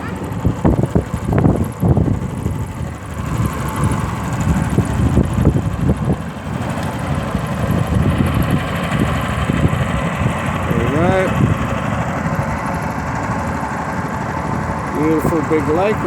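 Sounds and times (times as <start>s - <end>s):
ferry engine running: 0.0s - 16.0s.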